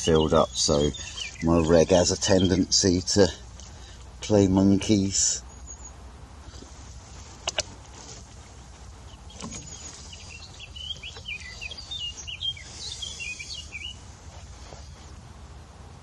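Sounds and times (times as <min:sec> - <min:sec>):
songbird chirping: 0:00.0 - 0:15.2.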